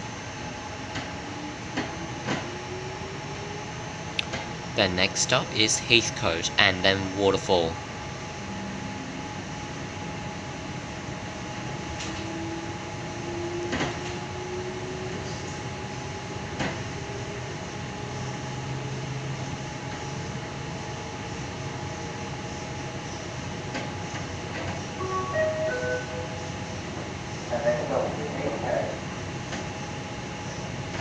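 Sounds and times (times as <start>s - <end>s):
electric train rumble and whine: 0.0s - 31.0s.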